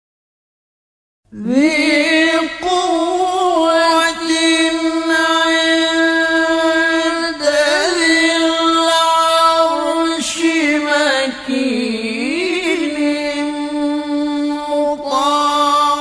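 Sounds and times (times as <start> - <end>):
man chanting recitation: 1.4 - 16.0.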